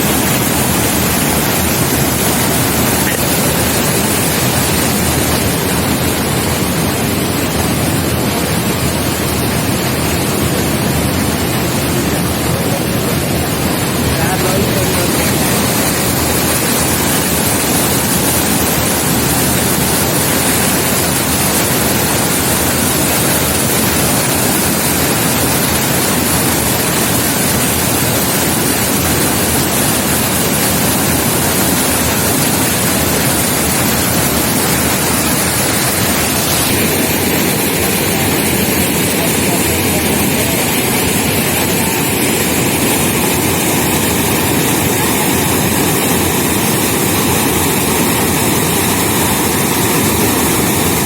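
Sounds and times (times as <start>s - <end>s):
water rushing over a dam: 0.0s - 51.0s.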